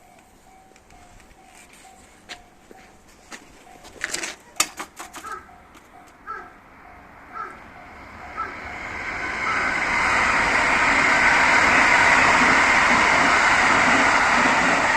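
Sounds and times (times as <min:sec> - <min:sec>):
train passing: 0:00.0 - 0:14.9.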